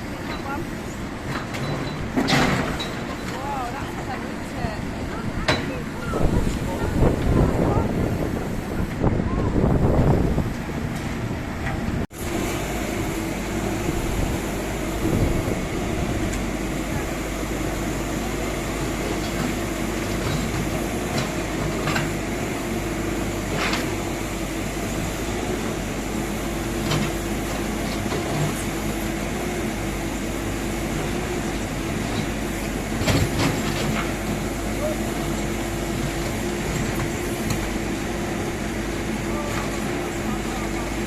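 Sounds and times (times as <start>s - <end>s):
machinery hum: 0.0s - 41.0s.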